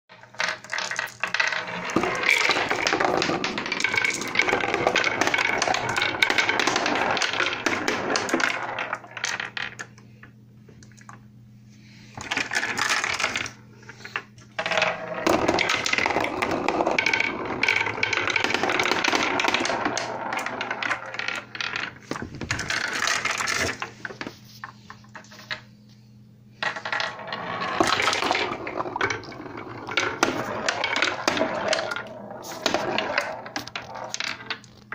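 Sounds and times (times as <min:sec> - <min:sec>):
marble rattling down wooden run: 0:00.1 - 0:10.0, 0:12.2 - 0:24.2, 0:26.6 - 0:34.9.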